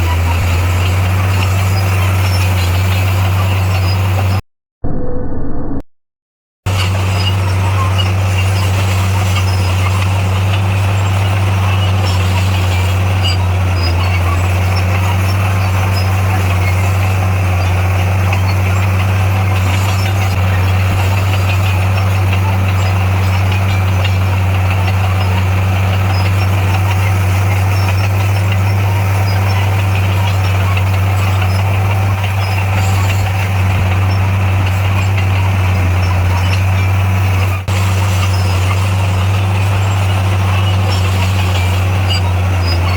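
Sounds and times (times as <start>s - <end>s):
heavy diesel machinery engine drone: 0.0s - 5.4s, 6.7s - 42.9s.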